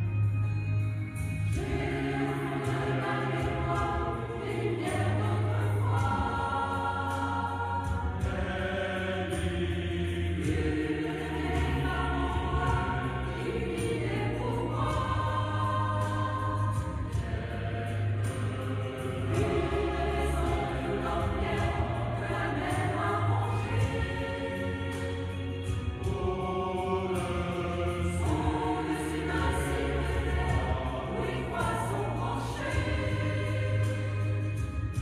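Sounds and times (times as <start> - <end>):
mixed choir singing: 1.4 - 35.0.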